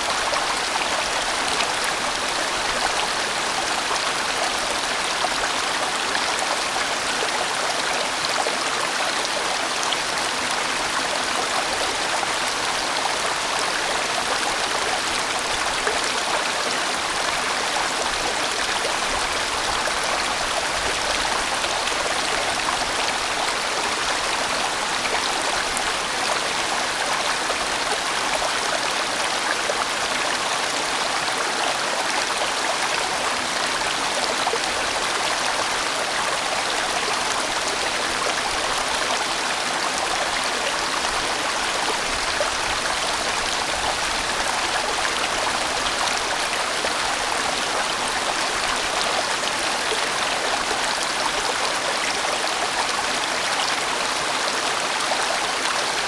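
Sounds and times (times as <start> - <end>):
stream rushing water: 0.0 - 56.0.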